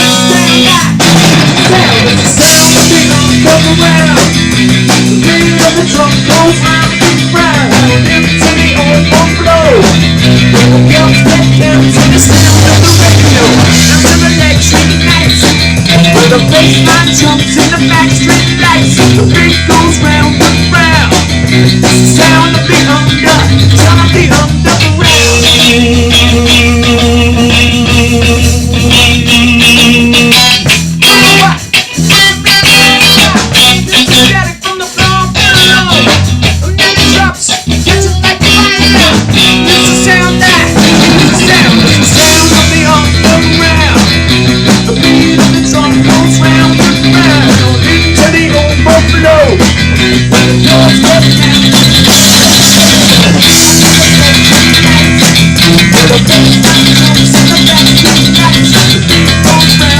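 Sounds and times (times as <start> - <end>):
instrumental rock-pop music: 0.0 - 59.9.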